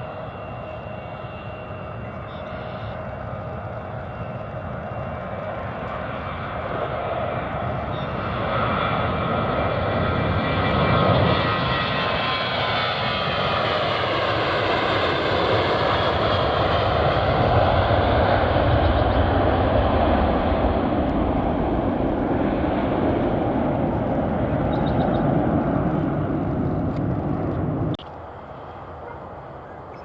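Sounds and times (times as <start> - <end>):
airliner engines passing: 0.0 - 30.0.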